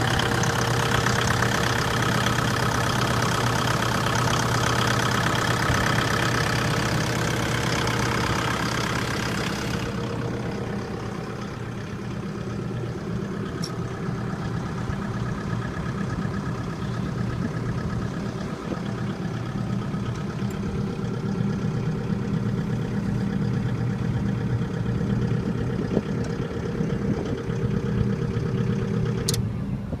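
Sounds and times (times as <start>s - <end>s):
diesel generator humming: 0.0s - 30.0s.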